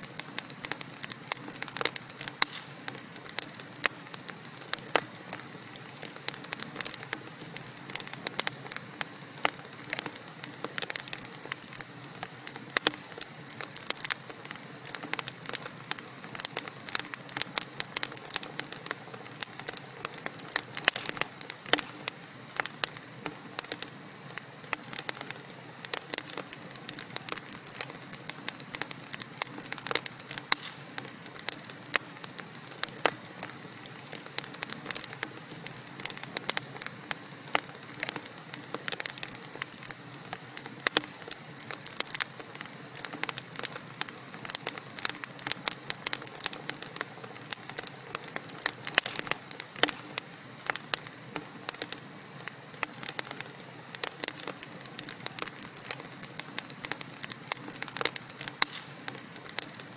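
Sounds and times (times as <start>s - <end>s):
crackles and pops of burning logs: 0.0s - 59.9s
wood fire hissing: 0.0s - 59.9s.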